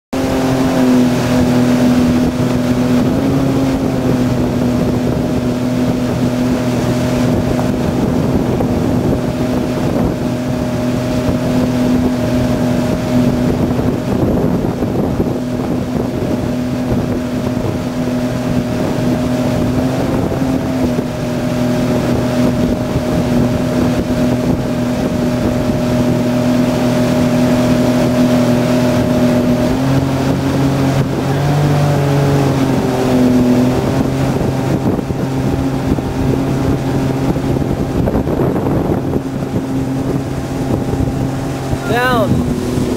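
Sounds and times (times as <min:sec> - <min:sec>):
boat engine running: 0:00.1 - 0:42.9
rush of boat wake: 0:00.1 - 0:42.9
wind buffeting microphone: 0:00.2 - 0:42.9.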